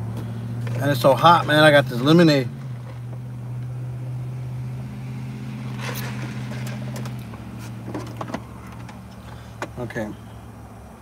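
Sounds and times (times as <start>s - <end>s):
truck idling hum: 0.0s - 11.0s.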